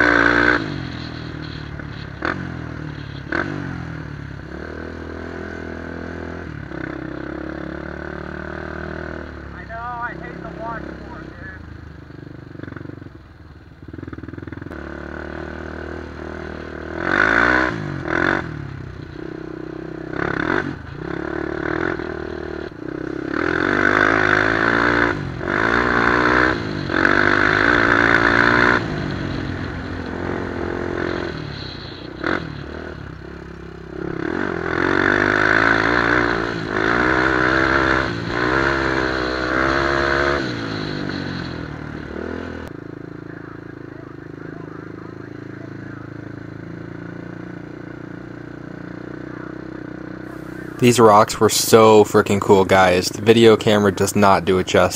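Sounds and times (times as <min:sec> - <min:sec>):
quad engine revving: 0:00.0 - 0:11.7, 0:13.9 - 0:47.6, 0:48.5 - 0:54.9.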